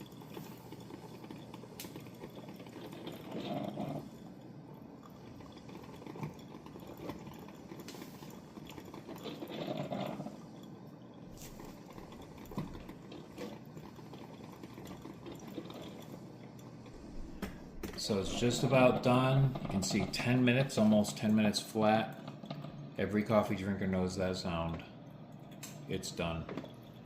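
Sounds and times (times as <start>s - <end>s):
coffee dripping into carafe: 0.0s - 27.0s
water gurgling in coffee maker: 0.0s - 27.0s.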